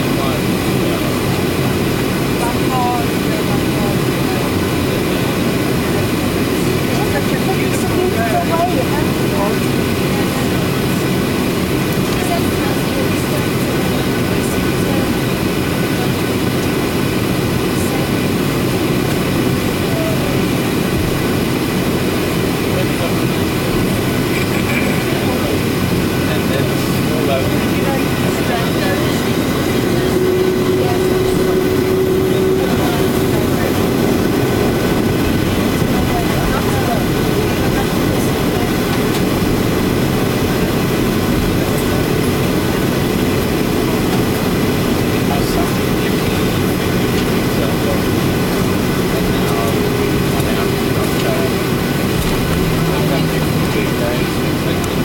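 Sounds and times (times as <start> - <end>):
aircraft cabin rumble: 0.0 - 55.0
jet engines droning: 0.0 - 55.0.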